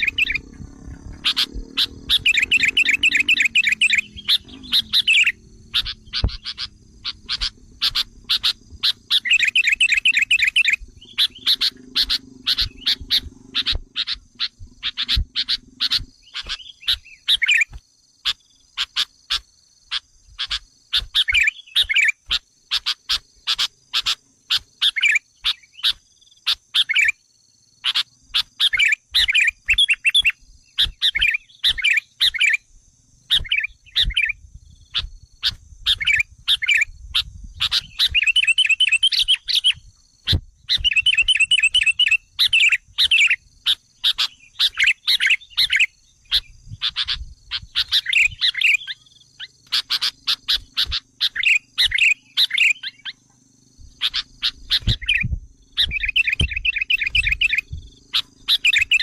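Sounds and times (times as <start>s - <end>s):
bulbul chirps and trills: 0.0s - 59.0s.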